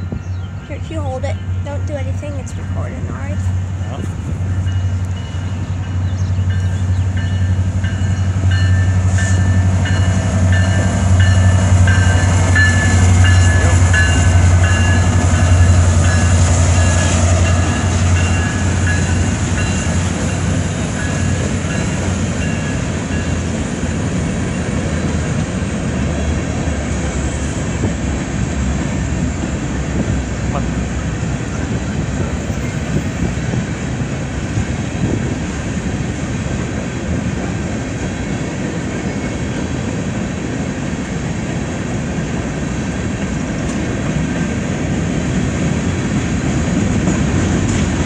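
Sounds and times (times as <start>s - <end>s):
diesel locomotive engine rumble: 0.0s - 48.0s
freight cars rolling on rails: 0.0s - 48.0s.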